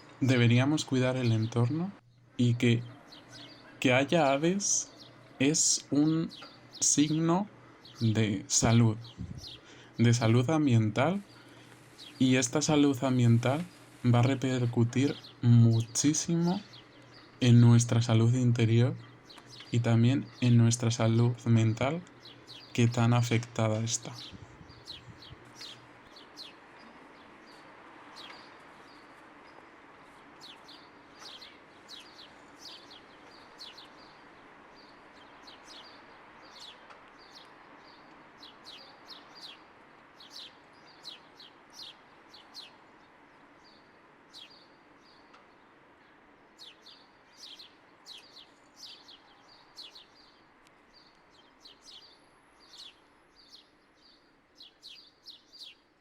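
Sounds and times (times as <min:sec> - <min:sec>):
background hiss: 0:00.0 - 0:56.0
small birds chirping: 0:00.0 - 0:56.0.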